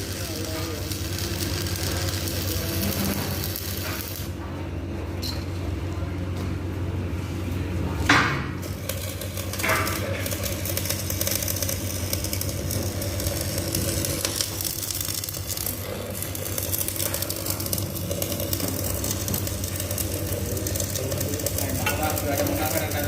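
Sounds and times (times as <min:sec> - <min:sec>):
welding arc crackling: 0:00.0 - 0:04.4, 0:08.1 - 0:23.0
low electrical hum: 0:00.0 - 0:23.0.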